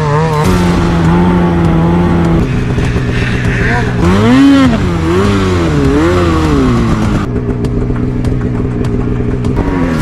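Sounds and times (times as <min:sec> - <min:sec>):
snowmobile engine revving: 0:00.0 - 0:07.9, 0:08.6 - 0:10.0.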